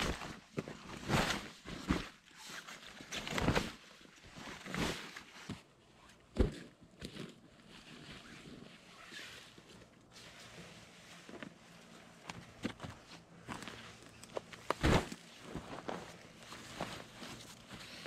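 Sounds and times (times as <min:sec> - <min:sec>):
fabric rustling and crinkling: 0:00.0 - 0:18.0.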